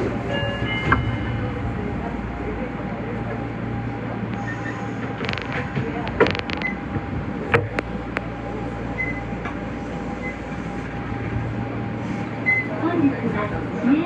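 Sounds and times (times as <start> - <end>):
train low hum: 0.0 - 14.0.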